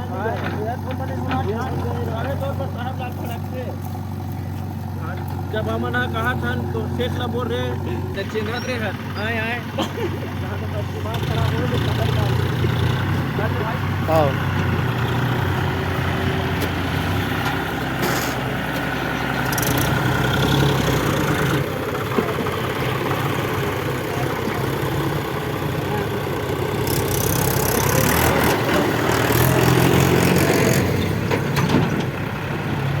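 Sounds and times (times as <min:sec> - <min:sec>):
diesel machinery engine drone: 0:00.0 - 0:33.0.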